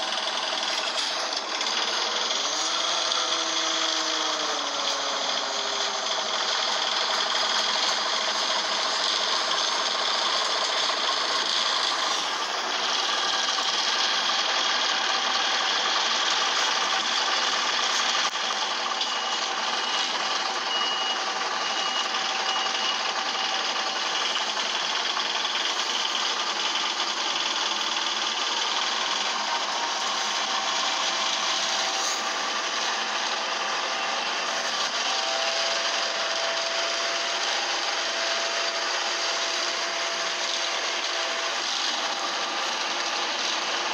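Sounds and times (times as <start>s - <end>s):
bus engine rattling: 0.0s - 43.9s.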